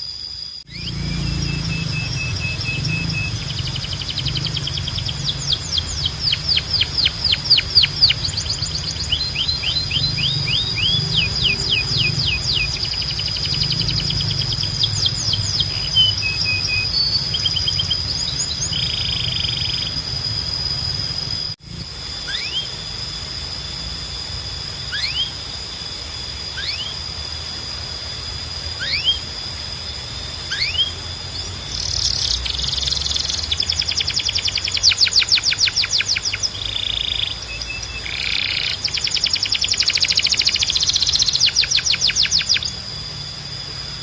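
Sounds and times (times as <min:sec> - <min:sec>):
canary singing: 0:00.0 - 0:21.5, 0:22.2 - 0:23.4, 0:24.8 - 0:25.5, 0:26.4 - 0:27.3, 0:28.3 - 0:44.0
steady low hum: 0:00.0 - 0:44.0.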